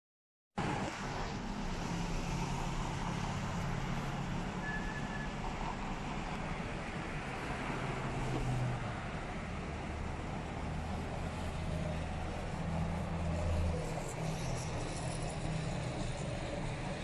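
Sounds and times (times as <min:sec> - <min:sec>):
road traffic with engine hum: 0:00.6 - 0:17.0.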